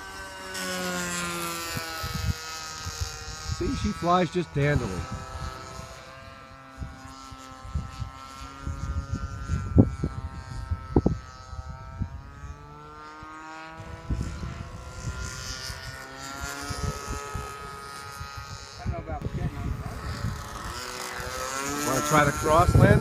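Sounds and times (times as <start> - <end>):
model airplane engine drone: 0.0 - 23.0
wind buffeting microphone: 0.7 - 13.1, 13.8 - 23.0.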